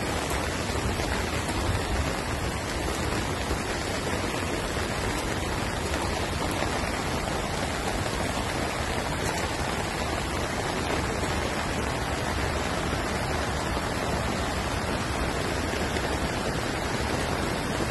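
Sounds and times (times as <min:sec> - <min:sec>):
heavy rain falling: 0:00.0 - 0:17.9.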